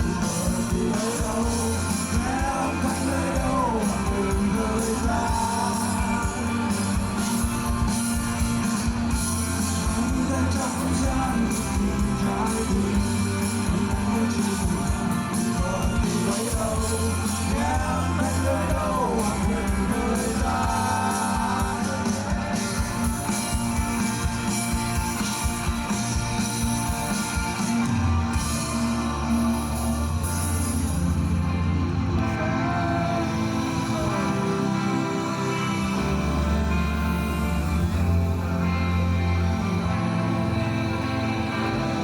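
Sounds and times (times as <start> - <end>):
rock band playing live: 0.0 - 42.0.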